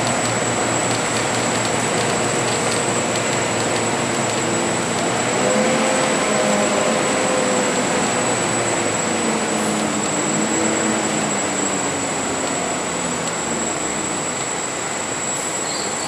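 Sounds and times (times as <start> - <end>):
bus engine running: 0.0 - 15.7
road and tyre noise: 0.0 - 16.0.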